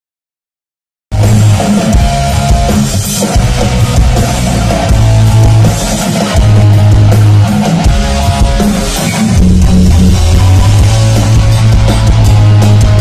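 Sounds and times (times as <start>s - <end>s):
rock band playing: 1.1s - 13.0s
long low bass notes: 1.2s - 13.0s.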